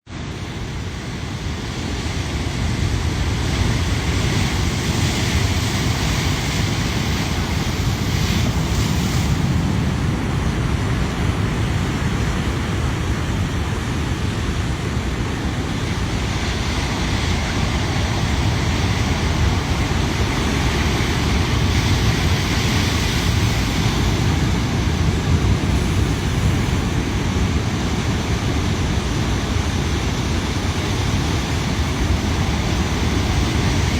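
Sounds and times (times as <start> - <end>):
wind rumble on microphone: 0.1 - 33.9
surf breaking: 2.8 - 33.9.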